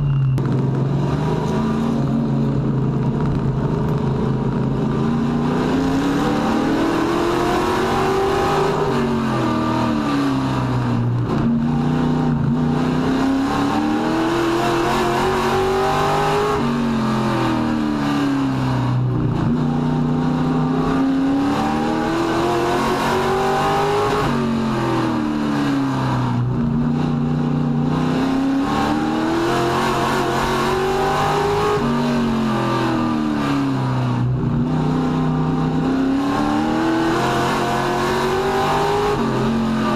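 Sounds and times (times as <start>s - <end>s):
truck engine accelerating and lifting: 0.0s - 39.9s.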